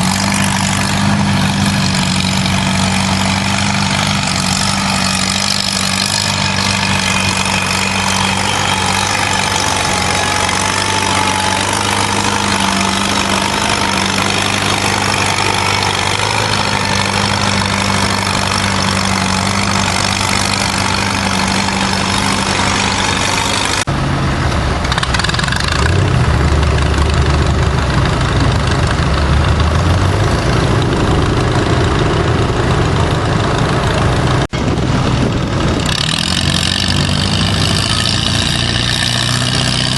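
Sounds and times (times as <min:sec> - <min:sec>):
deep engine sound: 0:00.0 - 0:39.9
tractor engine droning: 0:00.0 - 0:39.9.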